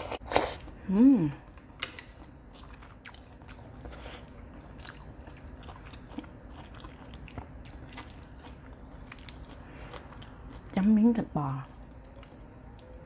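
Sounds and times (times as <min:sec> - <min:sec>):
person chewing food: 0:01.4 - 0:10.8, 0:11.7 - 0:13.0.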